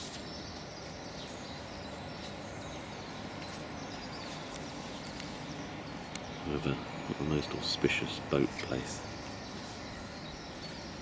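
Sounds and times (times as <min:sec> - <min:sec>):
faint bird chirps: 0:00.0 - 0:11.0
soft outdoor hiss: 0:00.0 - 0:11.0.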